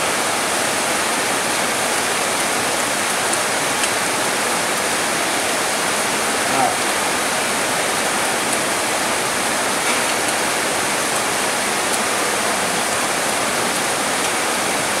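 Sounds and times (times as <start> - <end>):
rain falling on trees: 0.0 - 15.0.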